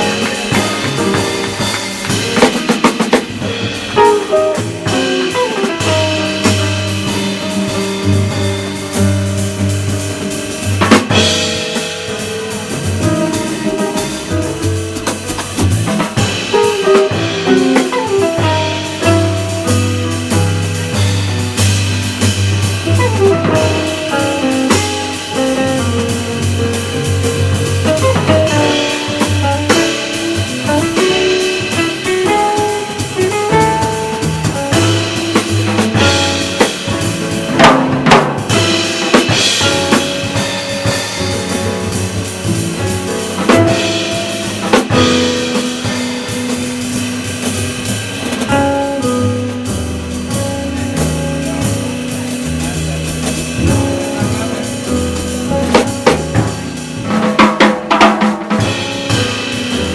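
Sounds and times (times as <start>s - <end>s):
cymbals: 0.0s - 59.9s
jazz band playing: 0.0s - 59.9s
loud drum accents: 0.0s - 59.9s.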